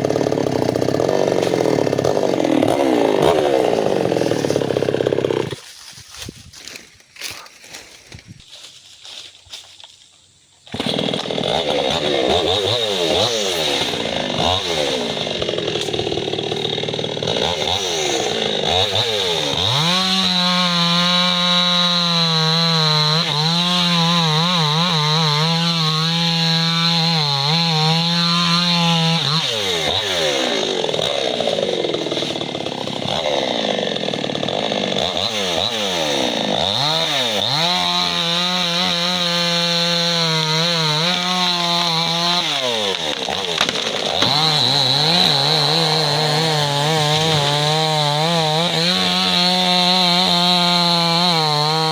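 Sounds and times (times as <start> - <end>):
chainsaw revving and cutting: 0.0 - 5.9, 10.7 - 51.9.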